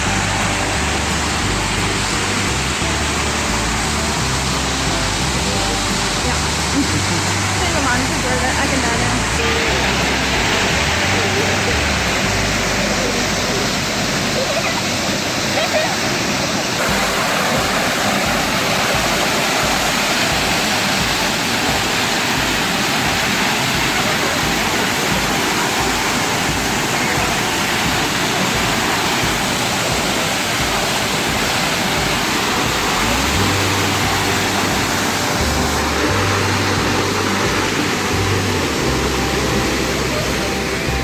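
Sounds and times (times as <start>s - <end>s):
low music notes: 0.0s - 41.0s
waterfall roar: 0.0s - 41.0s.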